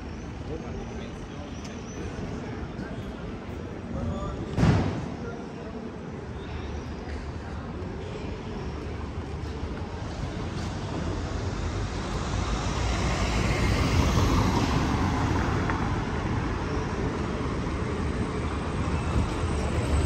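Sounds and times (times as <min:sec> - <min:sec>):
street low rumble: 0:00.0 - 0:20.0.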